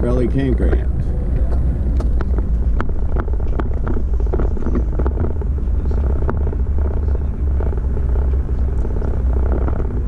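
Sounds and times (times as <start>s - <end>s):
sharp clicks and knocks: 0.0s - 10.0s
vehicle rumbling slowly: 0.0s - 10.0s.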